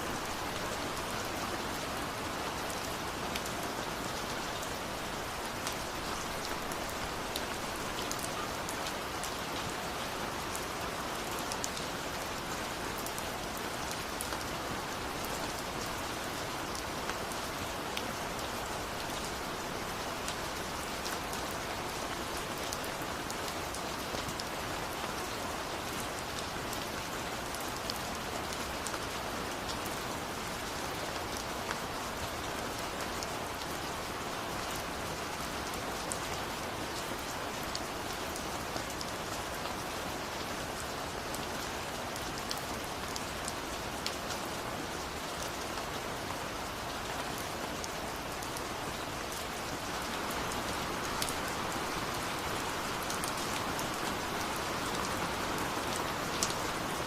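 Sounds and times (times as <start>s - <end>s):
steady rainfall with ticking drops: 0.0s - 57.0s.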